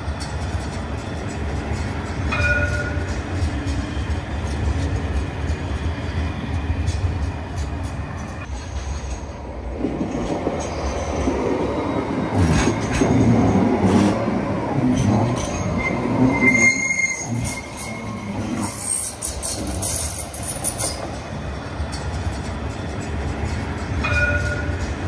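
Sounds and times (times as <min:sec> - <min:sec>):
tram wheel squeal: 0:00.0 - 0:25.0
tram wheels rumbling: 0:00.0 - 0:25.0.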